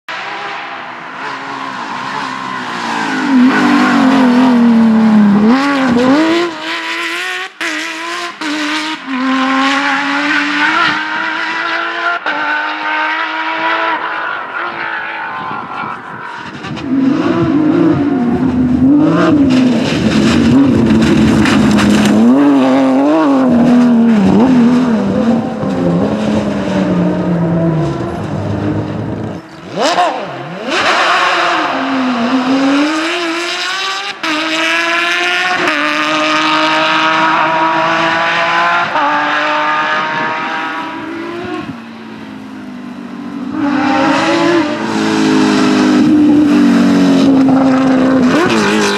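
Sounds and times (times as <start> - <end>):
rally car engine revving: 0.1 - 48.9.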